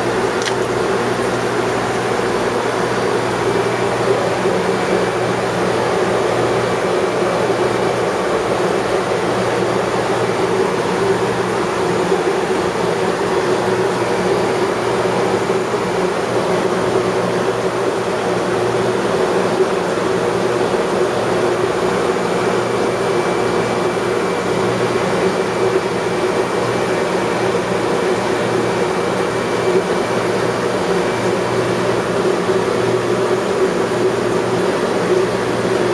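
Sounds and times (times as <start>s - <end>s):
aquarium equipment humming: 0.0s - 35.9s.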